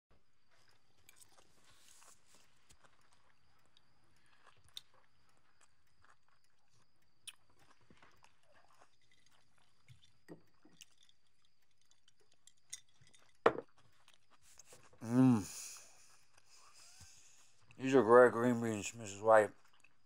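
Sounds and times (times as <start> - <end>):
faint chewing: 0.2 - 20.0.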